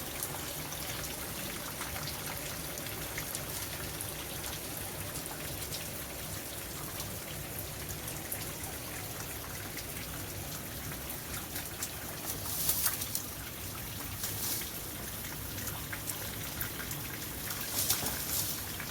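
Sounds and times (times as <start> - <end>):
water trickling and splashing: 0.0 - 18.9.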